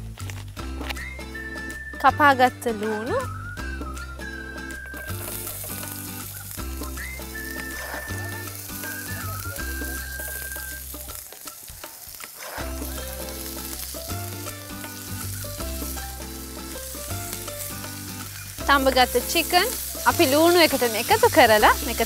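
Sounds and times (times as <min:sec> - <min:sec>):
background music with bass: 0:00.0 - 0:11.3, 0:12.6 - 0:22.0
onions sizzling in oil: 0:03.8 - 0:22.0.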